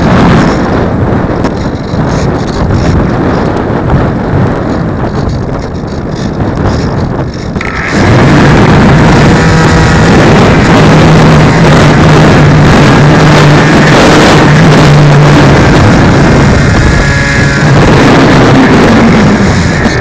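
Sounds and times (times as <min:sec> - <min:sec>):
air rushing over microphone: 0:00.0 - 0:20.0
steady low hum: 0:00.0 - 0:20.0.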